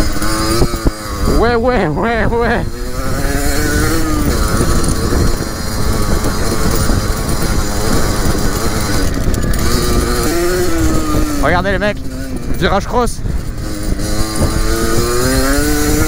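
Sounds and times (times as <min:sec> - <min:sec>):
two-stroke engine revving: 0:00.0 - 0:16.0
wind noise: 0:00.0 - 0:16.0.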